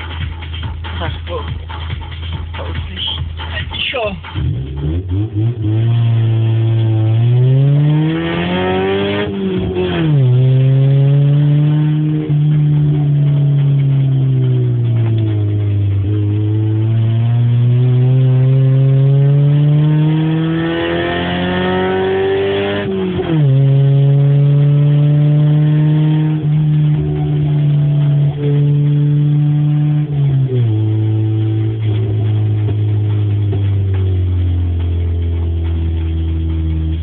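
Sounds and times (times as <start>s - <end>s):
car engine revving without exhaust: 0.0s - 37.0s.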